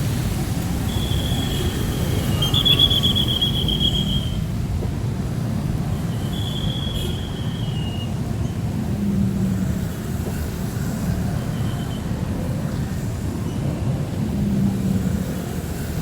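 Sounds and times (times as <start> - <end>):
heavy rain on street: 0.0 - 16.0
passing traffic rumble: 0.0 - 16.0.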